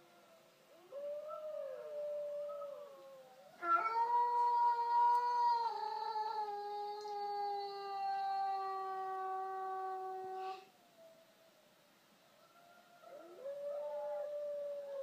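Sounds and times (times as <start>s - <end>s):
howling: 0.0s - 11.3s, 12.3s - 15.0s.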